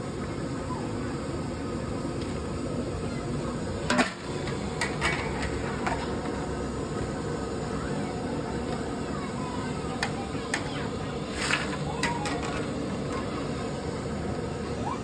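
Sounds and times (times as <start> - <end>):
potato slices sizzling in oil: 2.2 - 15.0.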